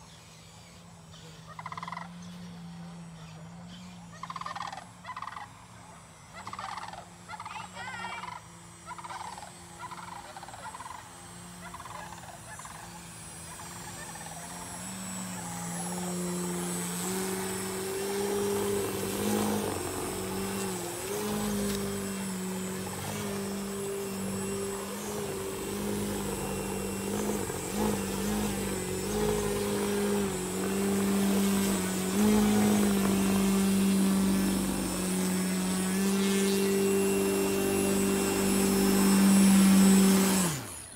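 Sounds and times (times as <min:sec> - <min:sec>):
model plane motor drone: 0:00.0 - 0:40.9.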